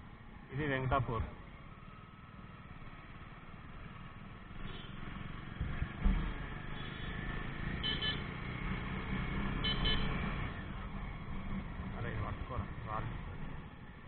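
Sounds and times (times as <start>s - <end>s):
road noise: 0.0s - 14.0s
motorcycle engine rumble: 1.2s - 14.0s.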